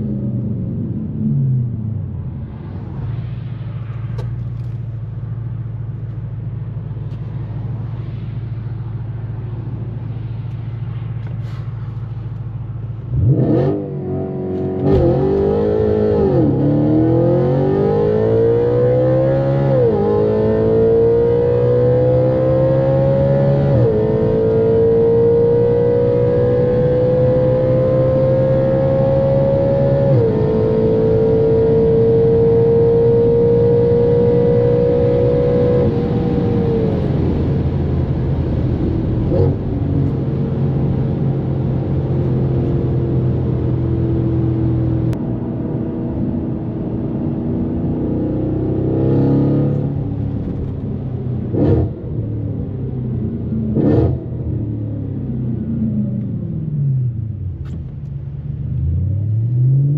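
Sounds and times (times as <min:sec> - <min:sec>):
car engine accelerating hard: 0:10.5 - 0:59.9.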